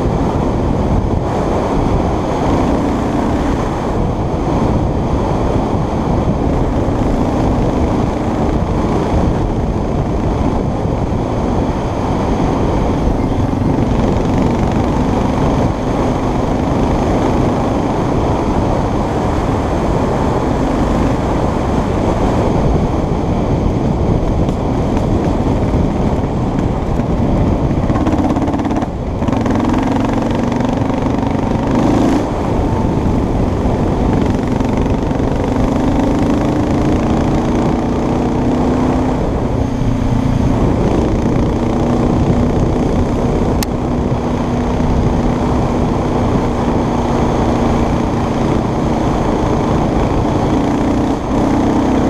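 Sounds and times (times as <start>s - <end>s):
small vehicle engine running: 0.0s - 52.0s
tyre noise on dirt road: 0.0s - 52.0s
wind rumble on microphone: 0.0s - 52.0s.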